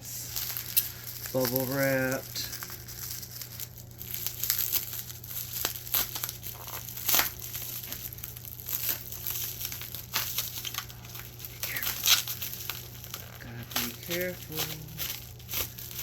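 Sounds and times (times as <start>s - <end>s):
bubble wrap crinkling: 0.0s - 16.0s
sharp plastic crackle: 0.0s - 16.0s.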